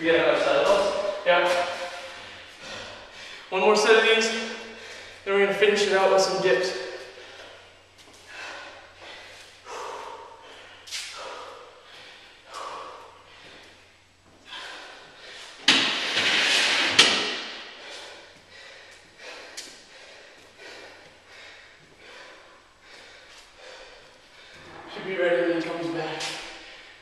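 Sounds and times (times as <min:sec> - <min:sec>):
man breathing hard: 0:00.1 - 0:05.3, 0:06.2 - 0:15.9, 0:17.2 - 0:24.9, 0:26.2 - 0:27.0.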